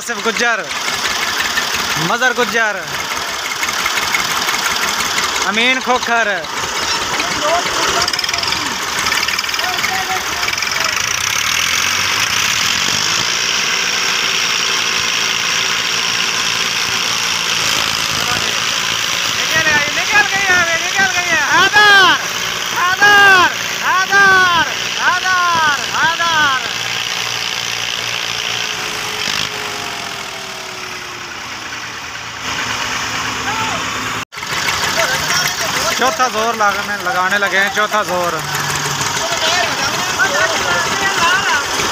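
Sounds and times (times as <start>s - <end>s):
diesel tractor engine under load: 0.0s - 41.9s.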